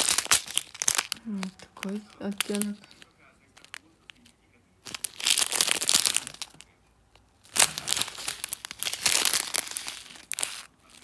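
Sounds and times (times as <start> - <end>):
plastic bags crinkling: 0.0 - 6.7, 7.4 - 11.0.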